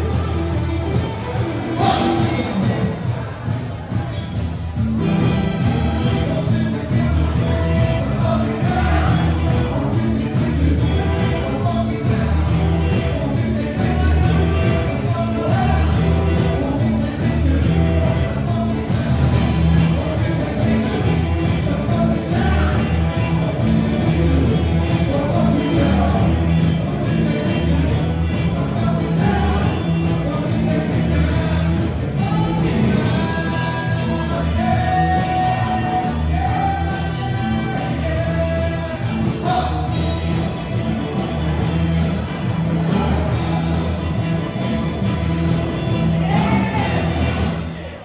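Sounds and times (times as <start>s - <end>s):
person singing: 0.0s - 4.1s, 5.0s - 47.8s
rock band playing live: 0.0s - 48.0s.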